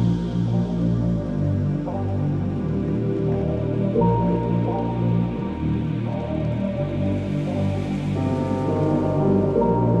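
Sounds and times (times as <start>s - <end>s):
drum and bass music: 0.0s - 10.0s.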